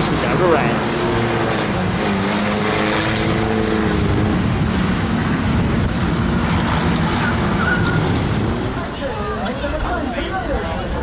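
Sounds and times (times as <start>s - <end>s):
stock car engines droning: 0.0s - 9.5s.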